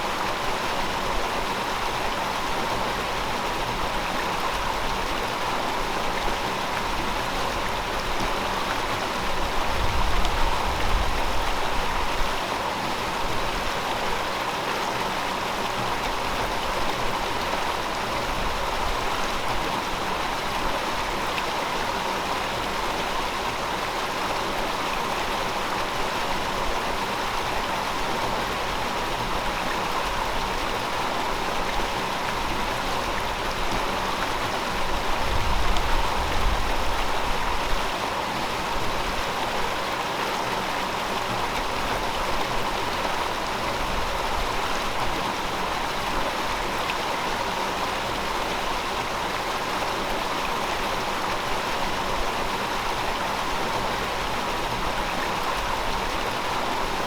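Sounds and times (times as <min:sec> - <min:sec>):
river flowing over rocks: 0:00.0 - 0:57.0.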